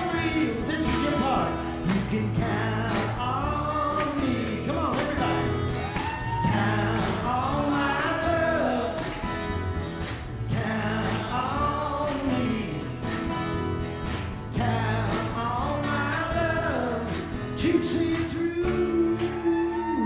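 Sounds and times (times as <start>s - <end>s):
acoustic guitars: 0.0s - 20.0s
upright bass: 0.0s - 20.0s.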